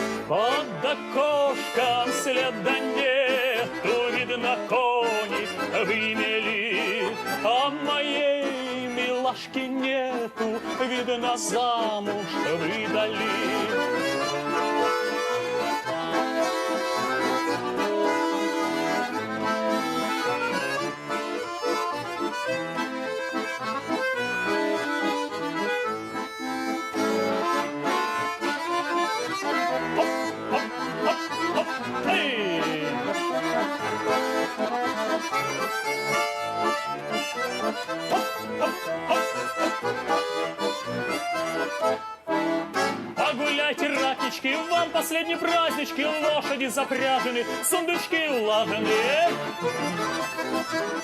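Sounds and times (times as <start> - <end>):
button accordion playing: 0.0 - 51.0.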